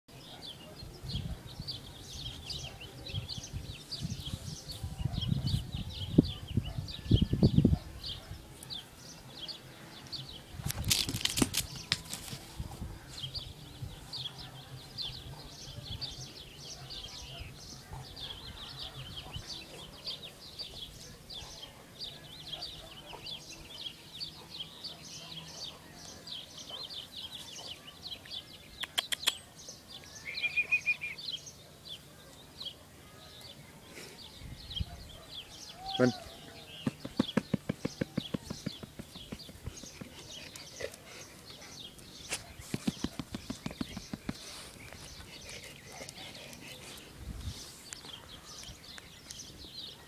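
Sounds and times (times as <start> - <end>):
small birds chirping: 0.1 - 50.0.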